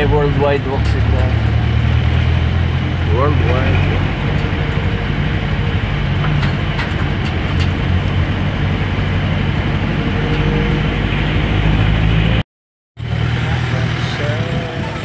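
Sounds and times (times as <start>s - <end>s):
road noise: 0.0s - 12.4s, 13.0s - 15.0s
vehicle engine running: 0.0s - 12.4s, 13.0s - 15.0s.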